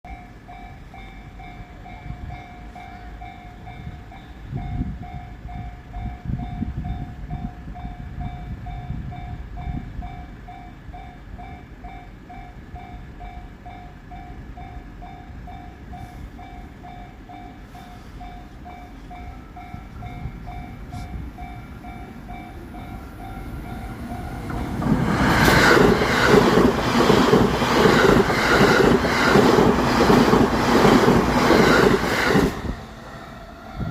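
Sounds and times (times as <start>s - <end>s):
train passing at high speed: 0.4s - 33.9s.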